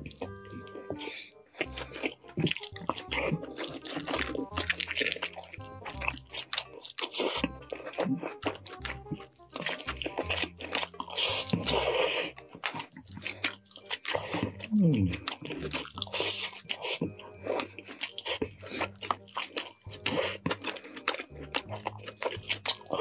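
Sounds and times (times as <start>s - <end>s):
background music with bass: 0.0s - 17.8s, 19.9s - 23.0s
wet chewing and crunching: 0.0s - 23.0s.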